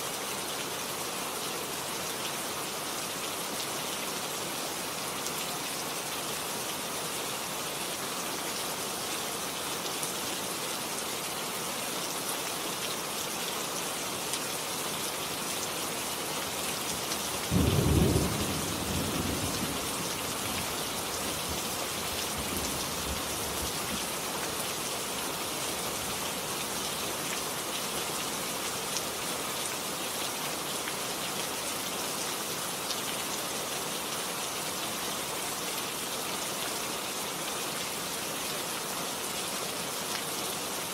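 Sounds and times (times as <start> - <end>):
heavy rain falling: 0.1 - 40.9.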